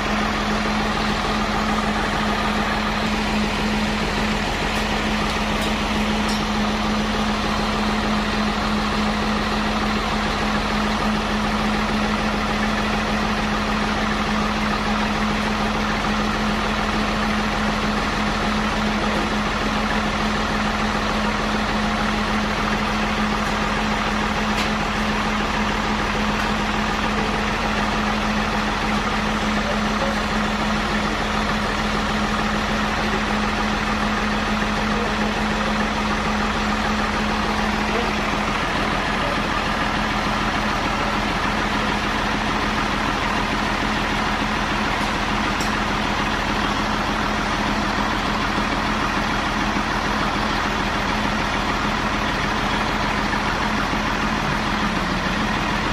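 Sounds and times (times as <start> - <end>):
sawmill machinery running: 0.0 - 55.9.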